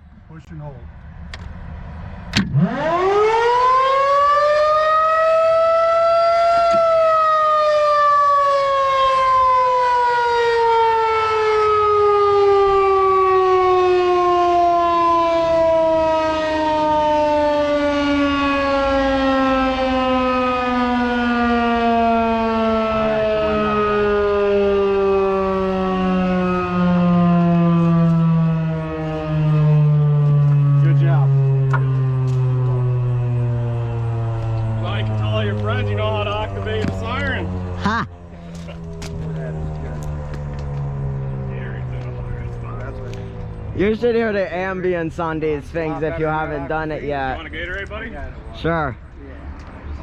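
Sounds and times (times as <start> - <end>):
electromechanical siren wail: 1.0 - 49.1.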